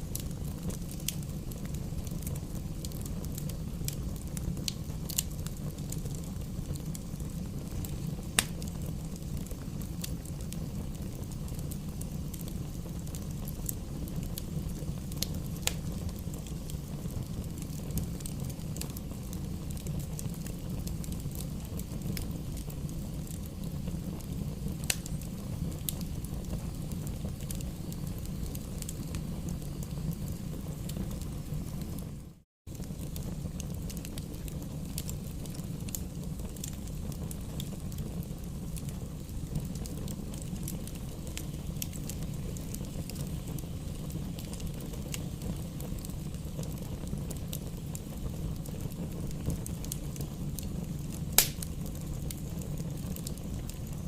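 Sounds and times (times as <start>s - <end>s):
fire burning in fireplace: 0.0s - 54.0s
fire pops and crackles: 0.0s - 54.0s.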